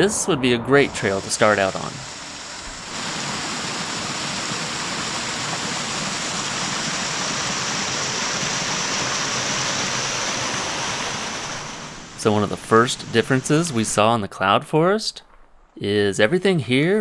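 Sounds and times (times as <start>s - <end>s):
steady rain falling: 0.0s - 15.2s.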